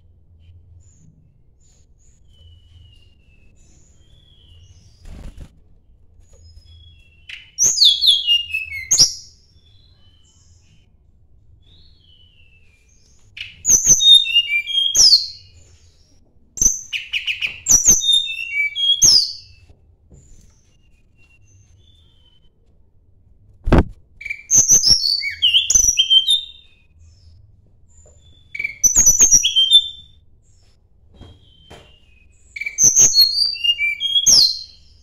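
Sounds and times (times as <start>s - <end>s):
songbird chirping and whistling: 0.9s - 5.5s, 6.4s - 10.9s, 11.6s - 16.0s, 16.6s - 19.7s, 20.4s - 22.6s, 24.2s - 27.4s, 28.0s - 30.2s, 31.2s - 35.0s.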